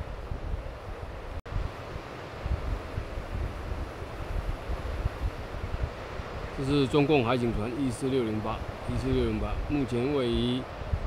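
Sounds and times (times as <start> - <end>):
rough sea: 0.0 - 11.0
wind buffeting microphone: 0.0 - 11.0
wind hiss: 0.0 - 11.0.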